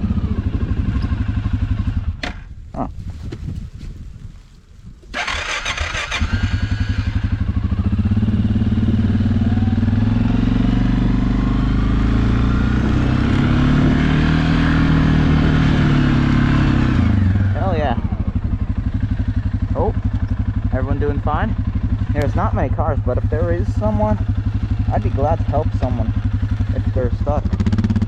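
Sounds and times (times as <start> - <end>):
quad engine accelerating: 0.0 - 2.2, 5.1 - 28.0.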